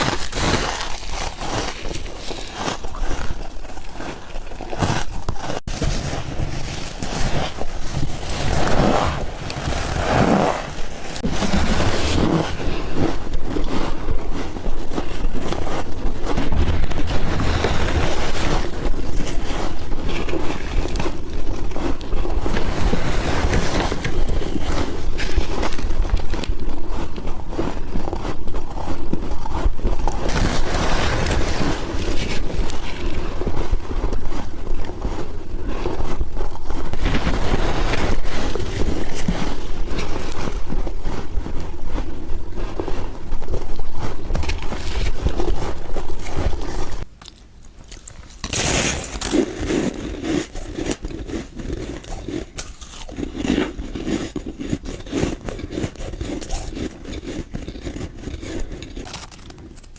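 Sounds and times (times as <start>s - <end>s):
chewing crunchy ice: 0.0s - 9.9s, 10.6s - 59.9s.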